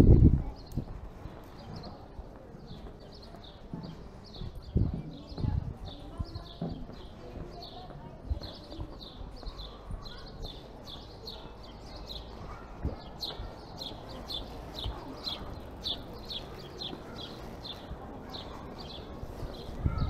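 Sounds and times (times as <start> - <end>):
street ambience: 0.0 - 20.0.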